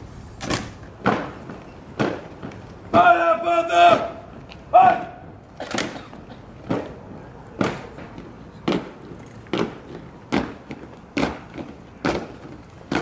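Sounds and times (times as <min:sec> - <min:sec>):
soldiers marching on stone: 0:00.2 - 0:13.0.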